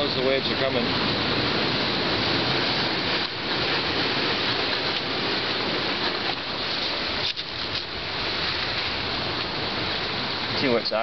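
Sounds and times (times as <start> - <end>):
waves washing over pebbles: 0.0 - 11.0.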